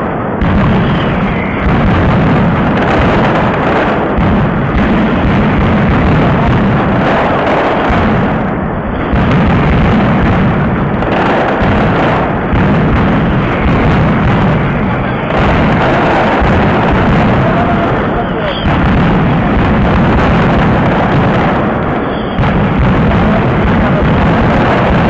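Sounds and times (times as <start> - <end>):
firecrackers bursting: 0.0 - 25.0.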